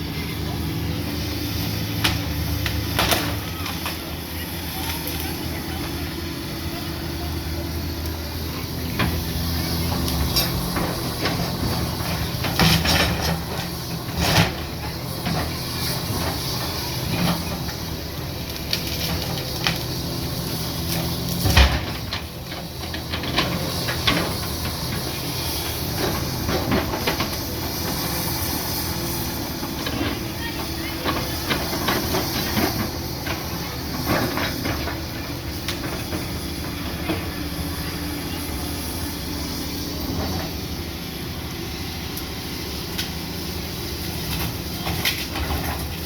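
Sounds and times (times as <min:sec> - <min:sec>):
heavy machine engine running: 0:00.0 - 0:46.0.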